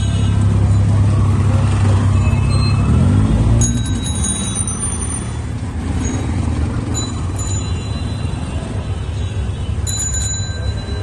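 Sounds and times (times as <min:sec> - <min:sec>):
road traffic engine rumble: 0:00.0 - 0:11.0.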